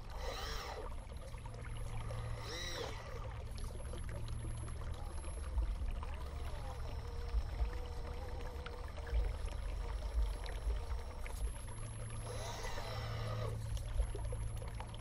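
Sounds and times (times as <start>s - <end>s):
small electric motor whine: 0.0s - 15.0s
trickle of running water: 0.0s - 15.0s.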